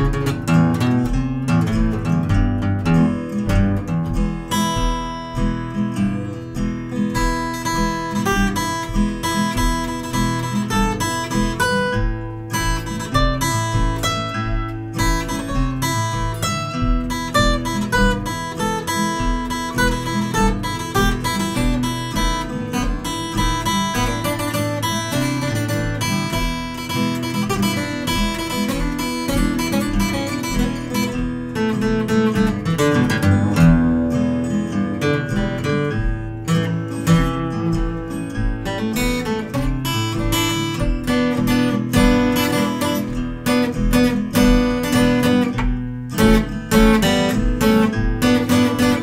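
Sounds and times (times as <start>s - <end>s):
fingerstyle acoustic guitar: 0.0s - 49.0s.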